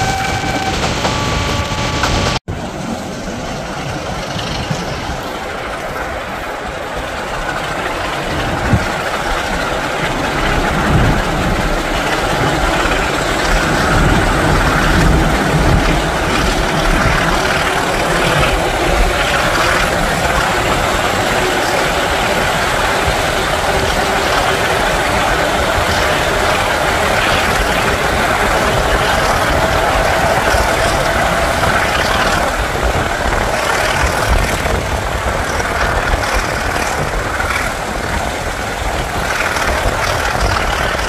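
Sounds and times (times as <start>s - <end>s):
diesel locomotive engines: 0.0s - 41.0s
train wheels rushing on rails: 0.0s - 41.0s
wind: 0.0s - 41.0s.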